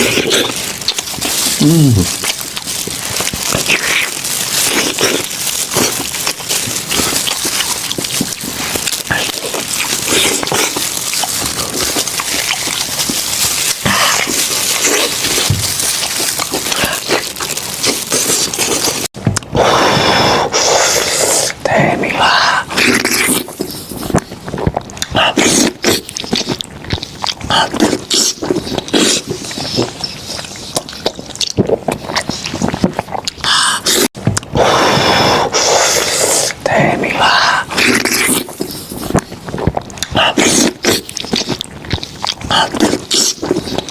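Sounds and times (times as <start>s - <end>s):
wet chewing and slurping: 0.0s - 43.9s.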